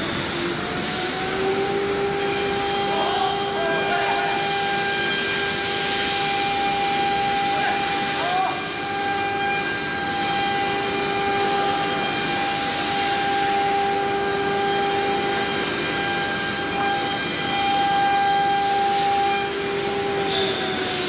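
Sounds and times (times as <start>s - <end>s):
router spindle whining: 0.0s - 21.0s.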